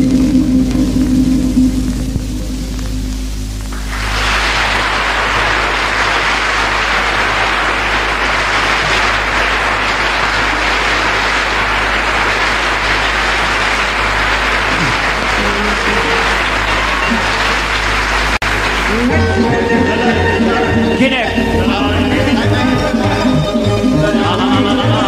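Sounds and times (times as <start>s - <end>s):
low steady hum: 0.0s - 25.0s
audience applauding: 3.7s - 25.0s.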